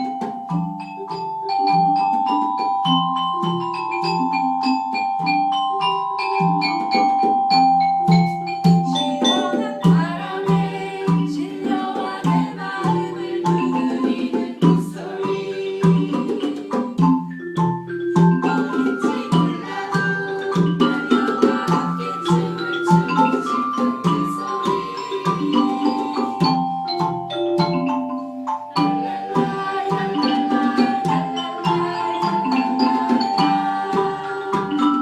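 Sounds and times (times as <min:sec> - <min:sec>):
mallet percussion melody: 0:00.0 - 0:35.0.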